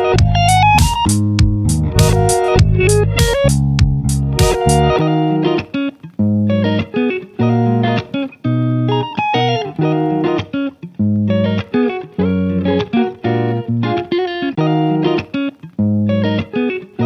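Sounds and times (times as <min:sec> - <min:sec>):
plucked guitar notes: 0:00.0 - 0:17.0.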